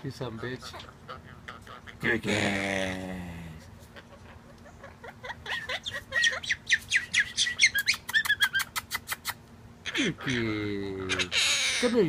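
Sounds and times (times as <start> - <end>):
parrot chirping: 0.3 - 2.2, 3.9 - 12.0.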